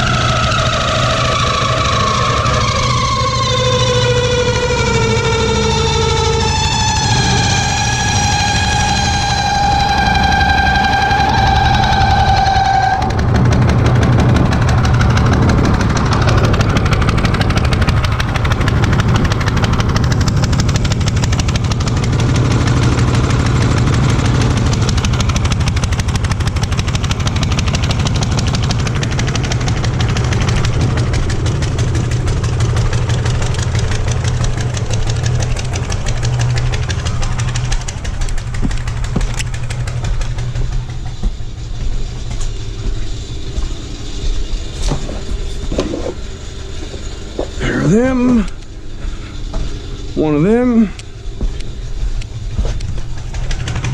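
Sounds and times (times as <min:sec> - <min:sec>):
small gasoline engine running: 0:00.0 - 0:53.9.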